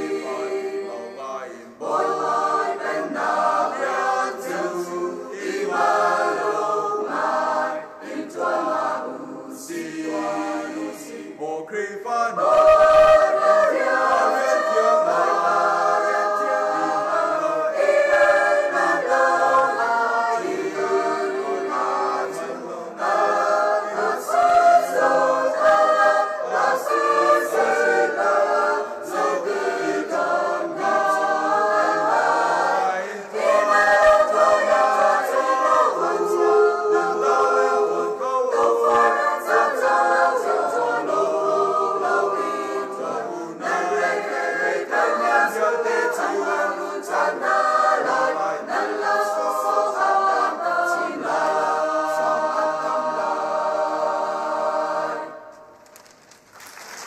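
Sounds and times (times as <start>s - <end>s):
mixed choir singing a church song: 0.0s - 55.8s.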